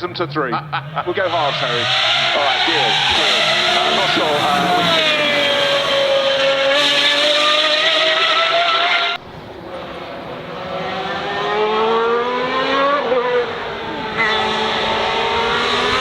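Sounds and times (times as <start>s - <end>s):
engine accelerating: 0.1s - 9.0s, 9.7s - 16.0s
racing car engine high revs: 0.4s - 16.0s.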